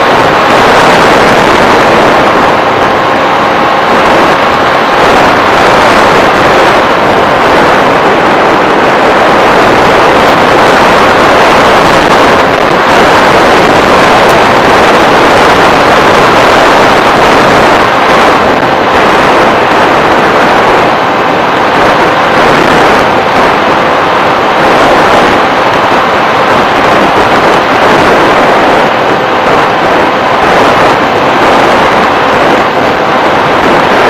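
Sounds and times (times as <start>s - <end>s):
airflow and propeller noise: 0.0s - 34.0s.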